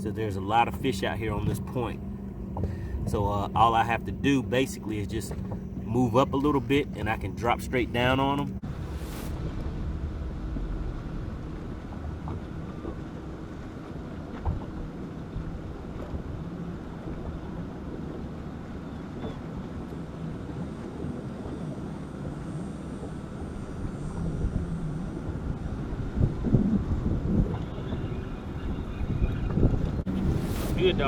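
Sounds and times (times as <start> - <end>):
boat motor droning: 0.0 - 31.0
wind on microphone: 0.7 - 31.0.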